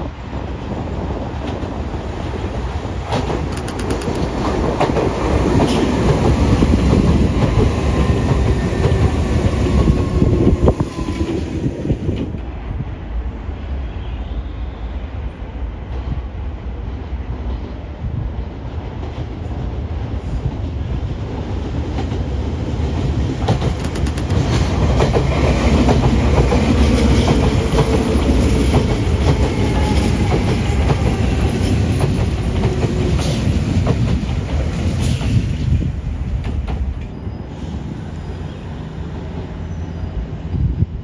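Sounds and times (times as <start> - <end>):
electric train rumbling past: 0.0 - 41.0.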